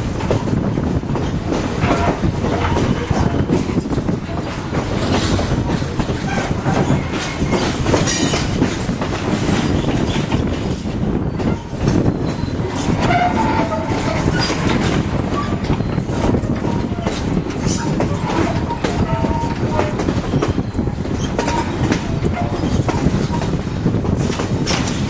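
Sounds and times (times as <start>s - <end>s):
train wheels clacking on rails: 0.0s - 25.0s.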